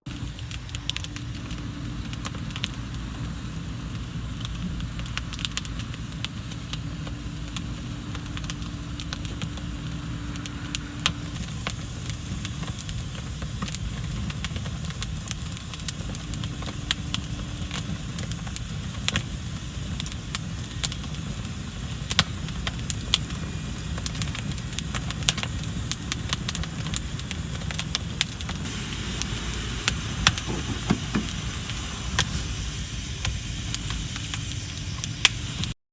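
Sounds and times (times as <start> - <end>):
campfire crackling and popping: 0.1 - 35.8
low fire rumble: 0.1 - 35.8.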